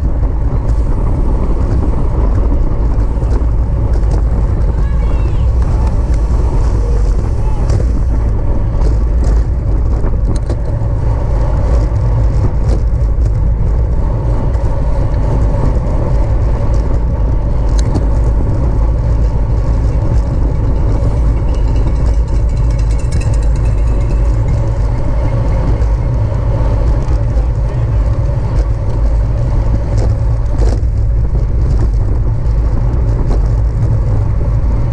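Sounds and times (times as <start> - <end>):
road noise: 0.0 - 34.9
wind rush on microphone: 0.0 - 34.9.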